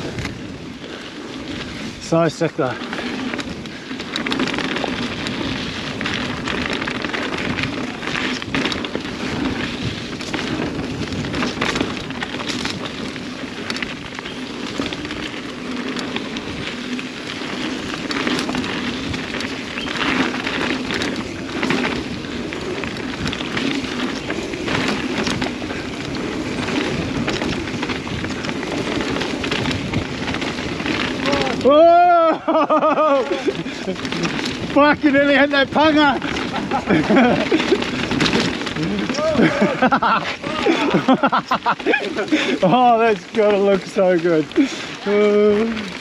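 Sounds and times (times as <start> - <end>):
bike knocks and rattles: 0.0 - 46.0
tyre and trail noise: 0.0 - 46.0.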